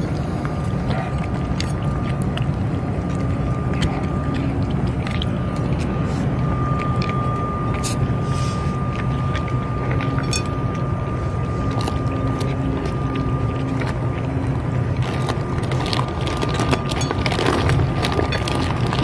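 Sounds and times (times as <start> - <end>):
cats chewing dry food: 0.0 - 19.0
low drone: 0.0 - 19.0.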